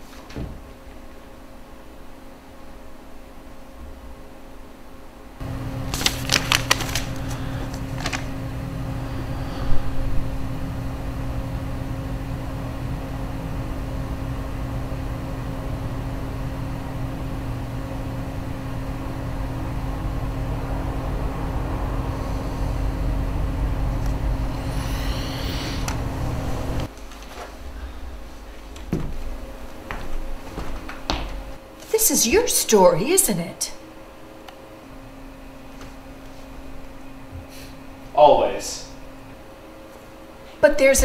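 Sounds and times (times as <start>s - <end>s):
low mechanical drone: 3.6s - 41.0s.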